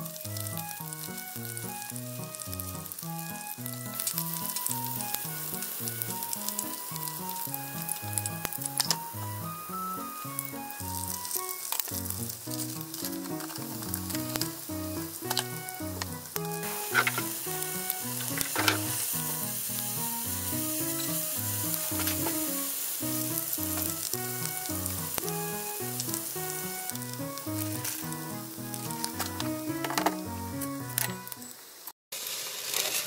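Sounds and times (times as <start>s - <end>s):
soft background music: 0.0s - 31.6s
oil sizzling in frying pan: 0.0s - 33.0s.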